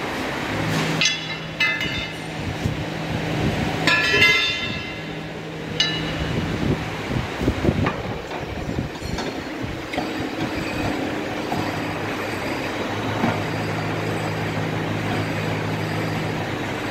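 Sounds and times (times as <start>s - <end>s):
stronger lower hum: 0.0s - 16.9s
machine motor humming: 0.1s - 16.9s.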